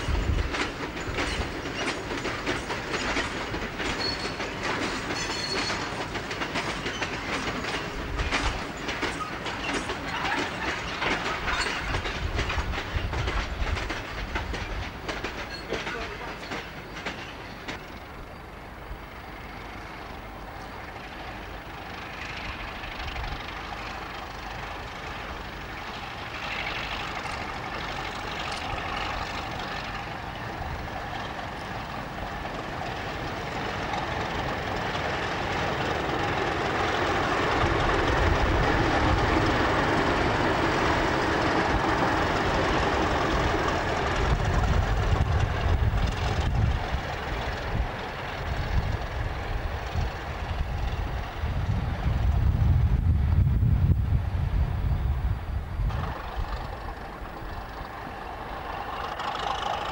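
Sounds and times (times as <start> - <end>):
deep rumble of passing train: 0.0 - 59.9
diesel locomotive engines: 0.0 - 59.9.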